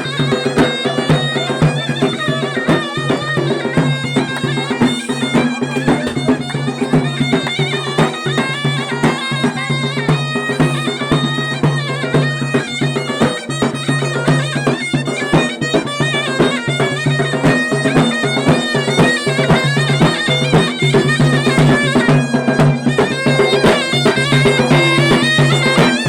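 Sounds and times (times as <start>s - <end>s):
drum strokes: 0.0s - 26.0s
reedy wind melody: 0.0s - 26.0s.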